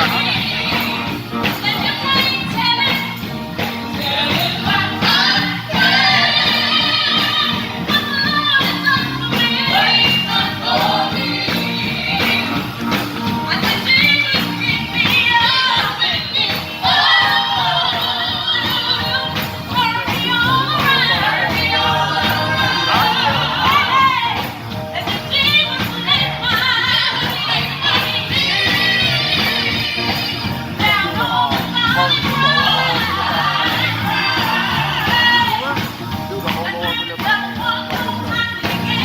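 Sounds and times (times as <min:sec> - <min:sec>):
band playing steady beat: 0:00.0 - 0:39.0
choir singing gospel: 0:00.0 - 0:39.0.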